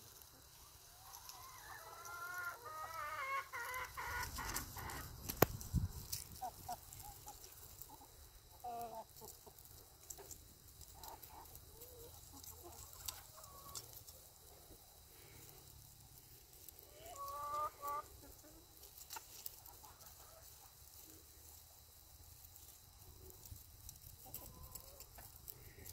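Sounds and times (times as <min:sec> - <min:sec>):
chickens clucking: 0:00.1 - 0:15.1, 0:15.7 - 0:25.9.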